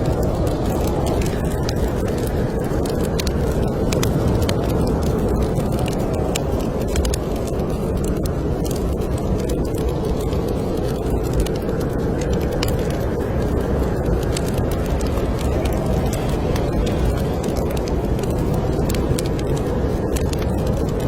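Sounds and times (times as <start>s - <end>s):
wind rumbling: 0.0s - 21.0s
wood fire crackling: 0.0s - 21.0s.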